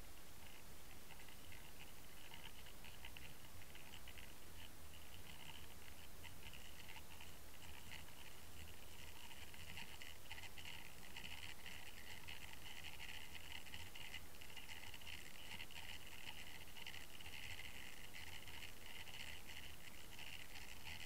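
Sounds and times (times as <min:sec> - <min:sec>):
scratchy crackle: 0:00.0 - 0:21.0.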